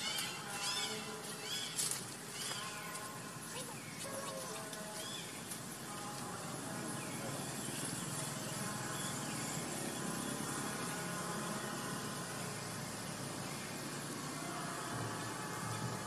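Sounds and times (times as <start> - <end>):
distant motor drone: 0.0 - 16.0.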